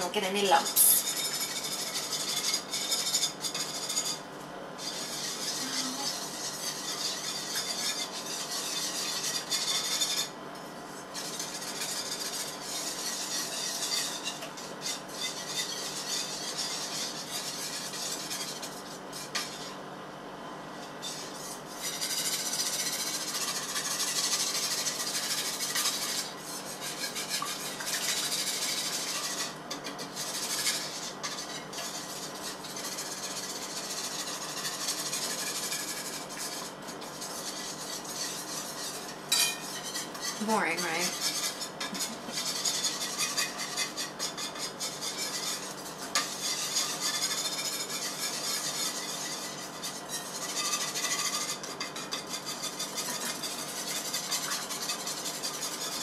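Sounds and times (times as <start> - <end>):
wire whisk scraping a pan: 0.0 - 19.9, 20.8 - 56.0.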